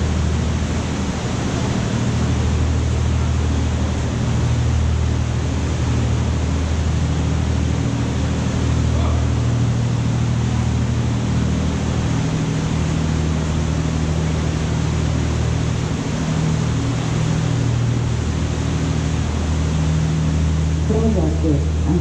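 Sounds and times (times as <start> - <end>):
boat engine humming: 0.0 - 22.0
water rushing past hull: 0.0 - 22.0.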